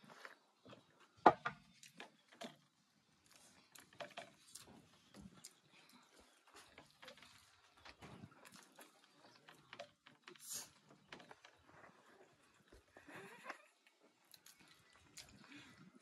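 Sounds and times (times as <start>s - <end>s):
people chewing and eating: 0.0s - 16.0s.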